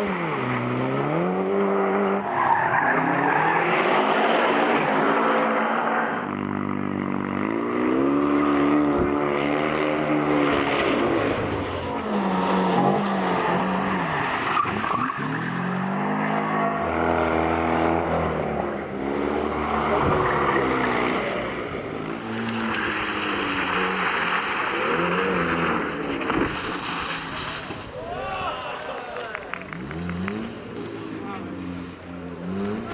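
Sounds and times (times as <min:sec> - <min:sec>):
rally car engines revving: 0:00.0 - 0:28.0, 0:29.4 - 0:32.9
tyres skidding: 0:00.0 - 0:32.9.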